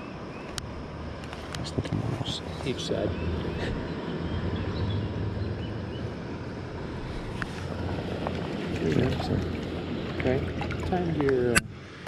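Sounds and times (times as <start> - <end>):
wind buffeting microphone: 1.6 - 11.9.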